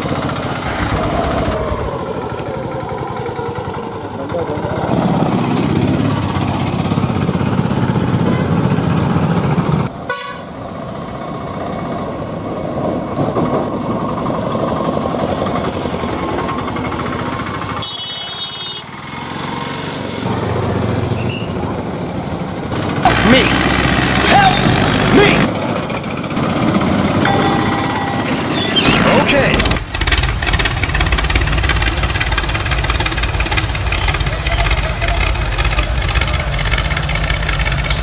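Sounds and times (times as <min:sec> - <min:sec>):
motor vehicle running: 0:00.0 - 0:38.0.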